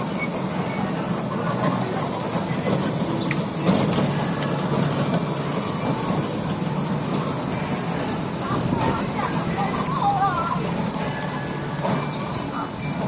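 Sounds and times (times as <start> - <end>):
small ride-on train rumbling: 0.0 - 13.0.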